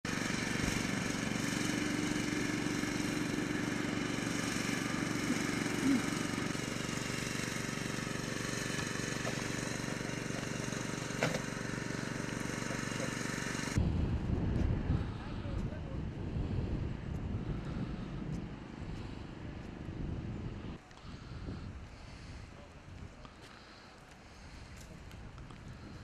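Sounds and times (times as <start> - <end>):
engine hum with held tones: 0.0 - 26.0.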